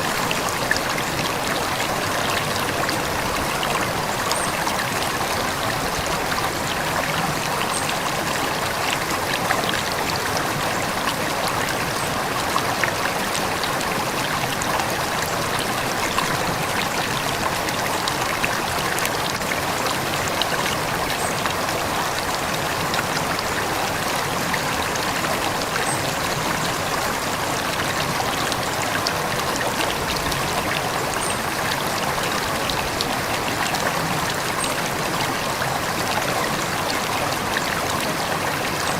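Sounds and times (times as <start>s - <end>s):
river water running over stones: 0.0s - 38.9s.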